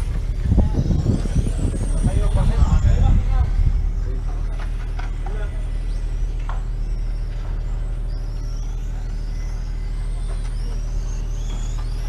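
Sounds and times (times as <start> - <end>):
racing motorcycle engines revving: 0.0 - 12.0
steady low drone: 0.0 - 12.0.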